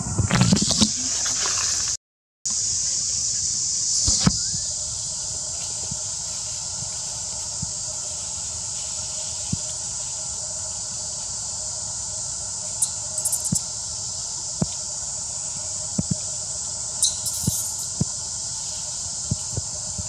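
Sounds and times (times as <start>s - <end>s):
steady high hiss: 0.7s - 20.0s.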